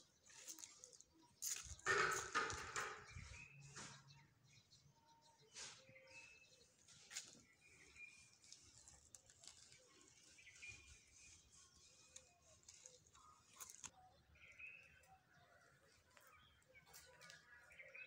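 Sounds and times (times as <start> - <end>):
distant bird chirps: 0.0 - 18.0.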